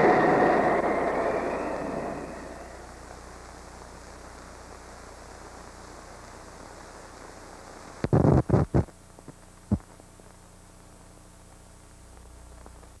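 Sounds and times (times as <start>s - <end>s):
film soundtrack hiss and hum: 0.0s - 13.0s.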